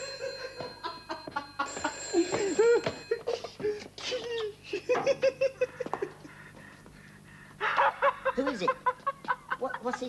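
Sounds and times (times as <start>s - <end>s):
man laughing: 0.2s - 6.5s, 7.6s - 10.0s.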